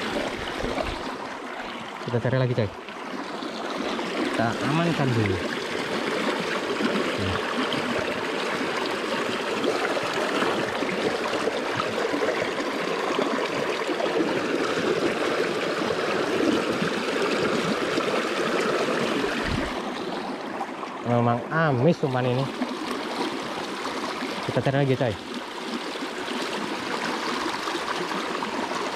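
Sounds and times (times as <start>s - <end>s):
stream water rushing over logs: 0.0s - 28.9s.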